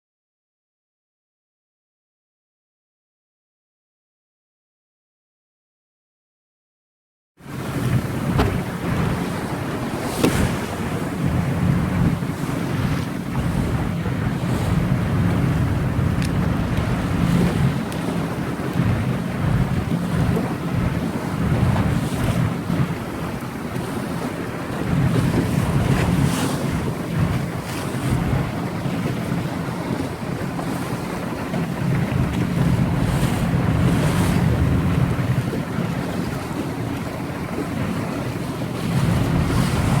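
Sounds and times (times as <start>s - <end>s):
sea surf rushing: 7.4s - 40.0s
wind buffeting microphone: 7.5s - 40.0s.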